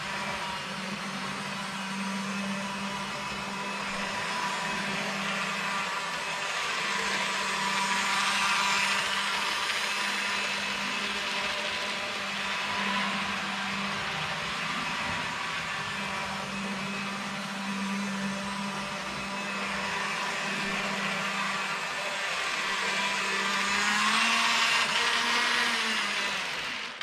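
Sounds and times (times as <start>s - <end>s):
model train motor whirring: 0.0s - 27.0s.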